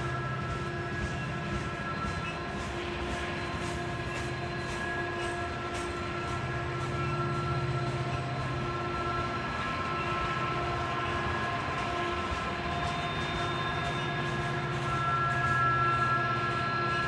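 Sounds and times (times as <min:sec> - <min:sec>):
high steady whine: 0:00.0 - 0:17.0
locomotive engine drone: 0:00.0 - 0:17.0.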